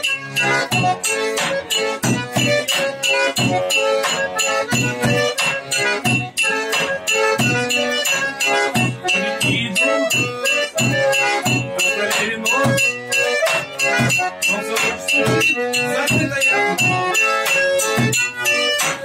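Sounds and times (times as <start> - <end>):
button accordion folk tune: 0.0 - 19.0
drum beat: 0.4 - 19.0.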